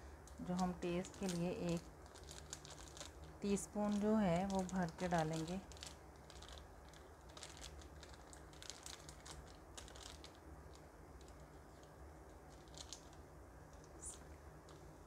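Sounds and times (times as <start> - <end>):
faint low hum: 0.0 - 15.0
plastic sachet crinkling: 0.1 - 15.0.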